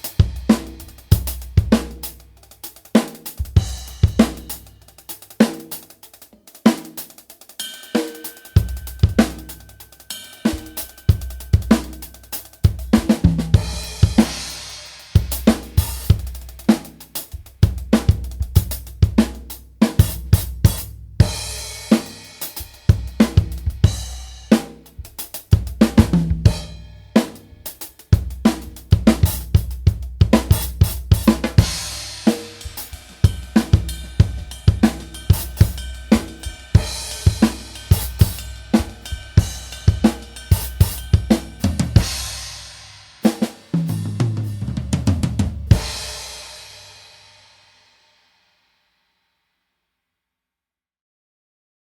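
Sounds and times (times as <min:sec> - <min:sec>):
drum groove: 0:00.0 - 0:47.6.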